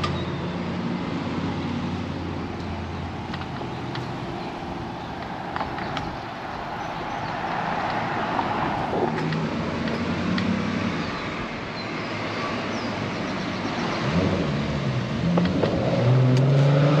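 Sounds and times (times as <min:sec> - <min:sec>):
car engines passing: 0:00.0 - 0:17.0
road noise rushing: 0:00.0 - 0:17.0.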